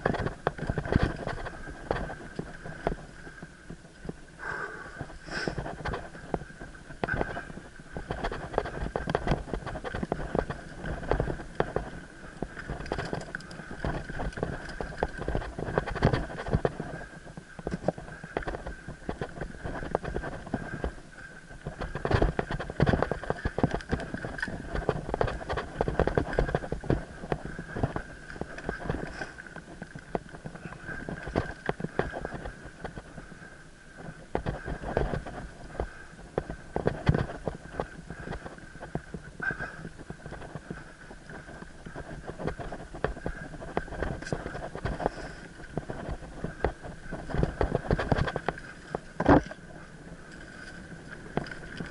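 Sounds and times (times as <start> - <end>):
bike rattling and knocking: 0.0 - 4.2, 5.0 - 33.2, 34.0 - 51.9.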